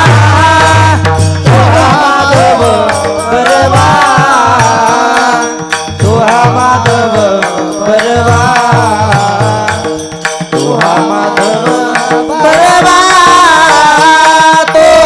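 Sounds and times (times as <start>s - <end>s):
hand drum beating: 0.0s - 15.0s.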